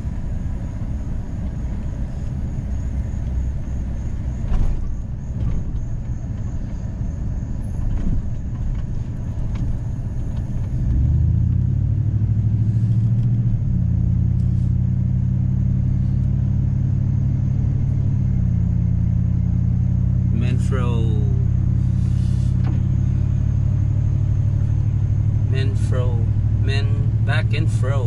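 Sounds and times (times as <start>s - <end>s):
road and engine rumble: 0.0s - 28.0s.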